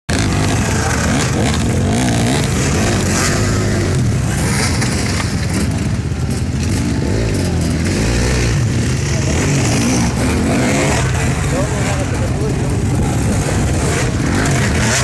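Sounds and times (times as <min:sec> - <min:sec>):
dirt bike engines revving: 0:00.1 - 0:15.0.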